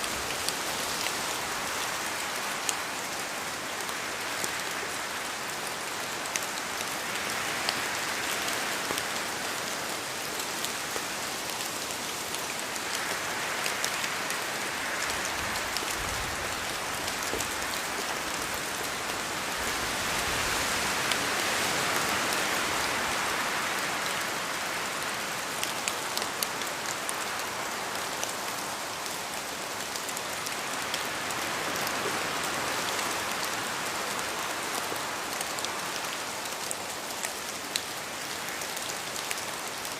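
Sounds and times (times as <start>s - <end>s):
rain drops pattering: 0.0s - 39.9s
wind: 0.0s - 39.9s.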